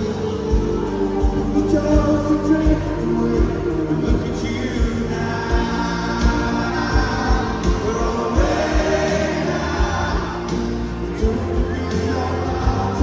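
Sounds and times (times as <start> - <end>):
guitars: 0.0 - 13.0
people singing: 0.0 - 13.0.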